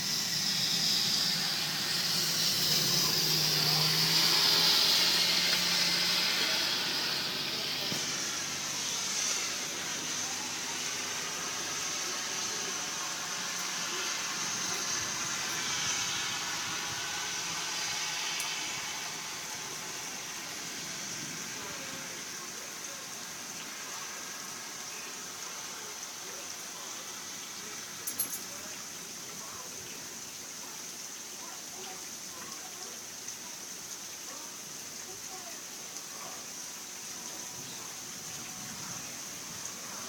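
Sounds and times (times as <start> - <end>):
heavy rain hissing: 0.0 - 40.0.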